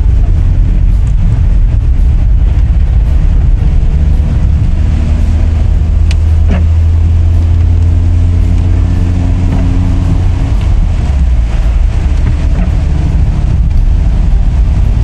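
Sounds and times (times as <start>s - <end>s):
car driving on wet road: 0.0s - 15.0s
heavy rain: 0.0s - 15.0s.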